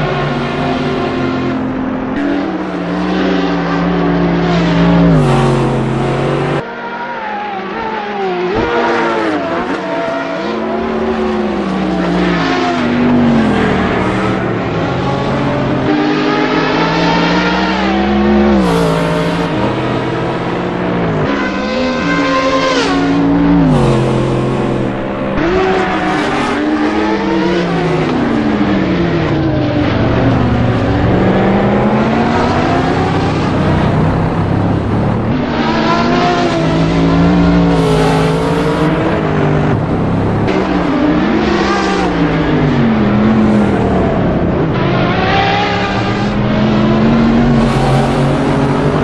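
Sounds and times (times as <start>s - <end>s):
racing car engine: 0.0s - 49.0s.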